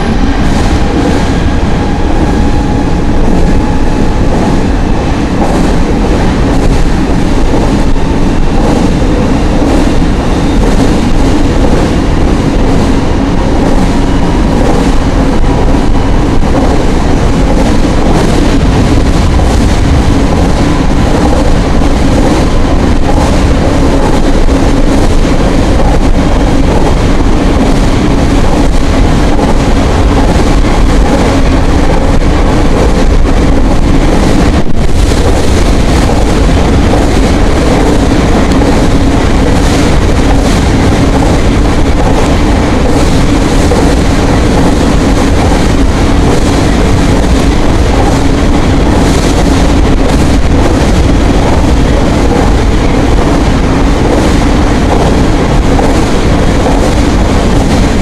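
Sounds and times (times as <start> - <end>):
electric train running: 0.0 - 58.0
wind noise: 0.0 - 58.0.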